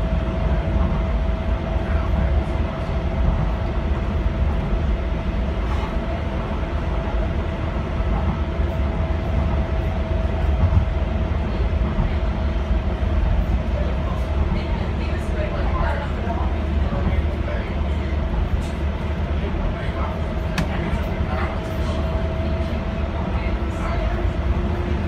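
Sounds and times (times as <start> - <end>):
steady train whine: 0.0 - 25.0
wheels rumbling on rail: 0.0 - 25.0.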